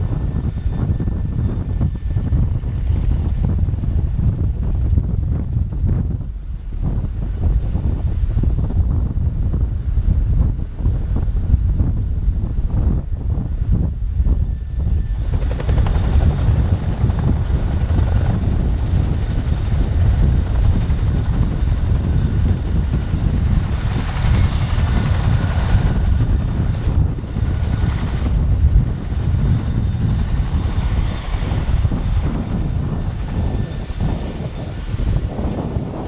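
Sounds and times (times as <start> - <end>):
faint high whine: 0.0 - 36.0
helicopter rotors rumbling: 0.0 - 36.0.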